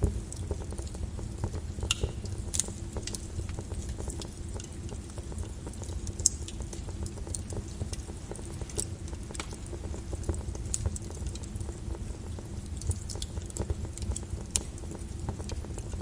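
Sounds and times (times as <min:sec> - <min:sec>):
lava bubbling rumble: 0:00.0 - 0:16.0
lava crackling and popping: 0:00.0 - 0:16.0.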